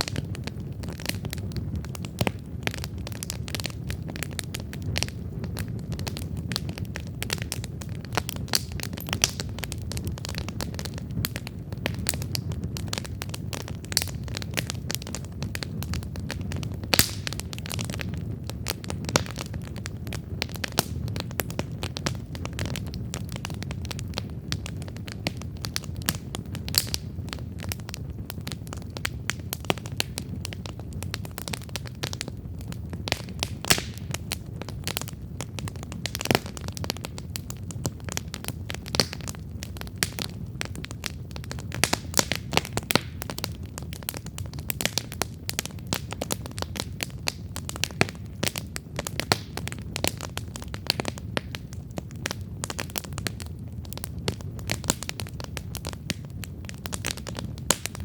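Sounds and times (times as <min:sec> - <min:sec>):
burning wood popping: 0:00.0 - 0:58.0
campfire flames rumbling: 0:00.0 - 0:58.0.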